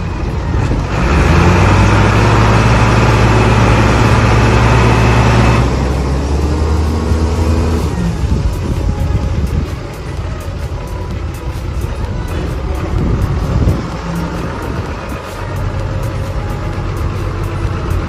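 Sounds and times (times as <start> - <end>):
tractor diesel engines at high revs: 0.0 - 18.0.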